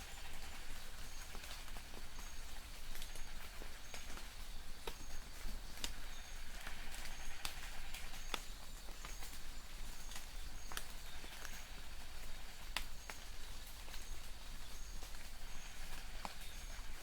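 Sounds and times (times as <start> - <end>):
light rain patter: 0.0 - 17.0
drips striking leaves: 0.4 - 17.0.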